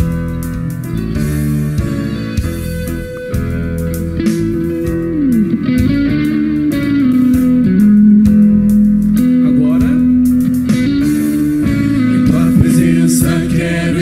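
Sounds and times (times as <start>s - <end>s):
drums and bass: 0.0s - 14.0s
electric guitar lead melody: 0.0s - 14.0s.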